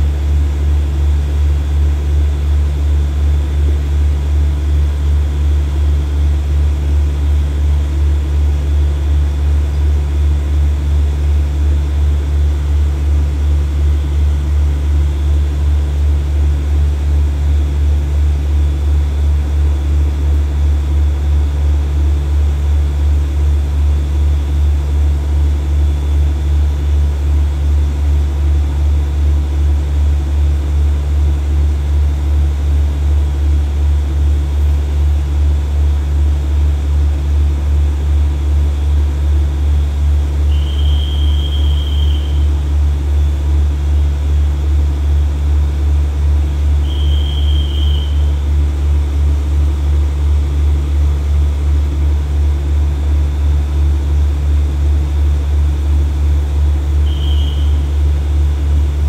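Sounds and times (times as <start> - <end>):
diesel locomotive engine idling: 0.0 - 59.0.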